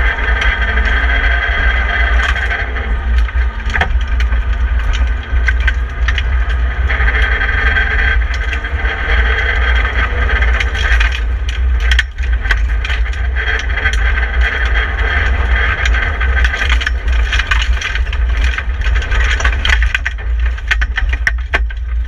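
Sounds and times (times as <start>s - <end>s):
car engine working hard: 0.0s - 22.0s
gravel striking car: 0.0s - 22.0s.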